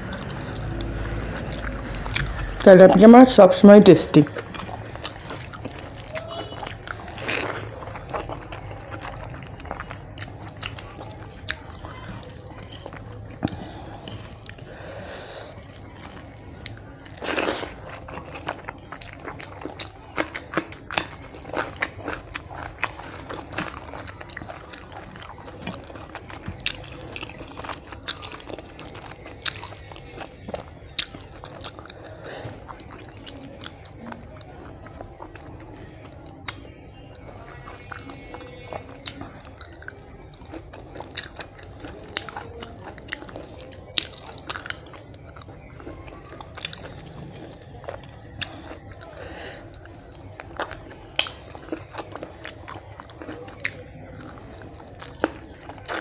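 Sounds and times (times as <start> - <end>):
wet chewing and lip-smacking: 0.0 - 3.2, 3.8 - 56.0.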